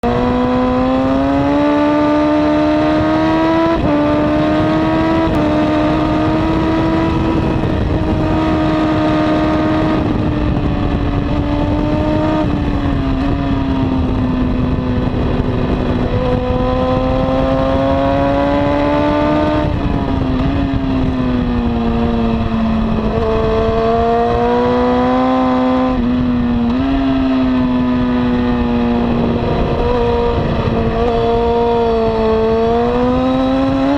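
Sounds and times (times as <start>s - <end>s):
motorcycle engine revving hard: 0.0s - 33.9s.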